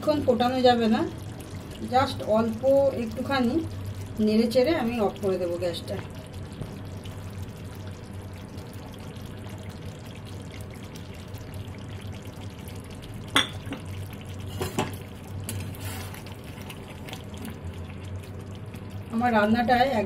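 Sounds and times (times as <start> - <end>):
gravy simmering: 0.0 - 20.0
steady low hum: 0.0 - 20.0.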